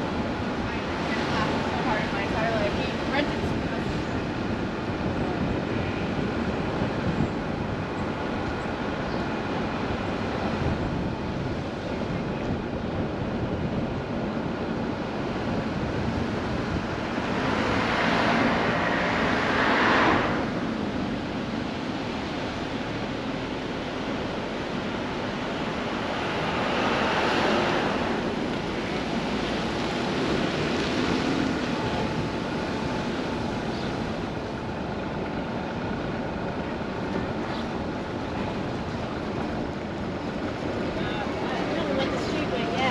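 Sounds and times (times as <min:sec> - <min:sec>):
traffic noise: 0:00.0 - 0:42.9
vehicles passing: 0:00.0 - 0:42.9.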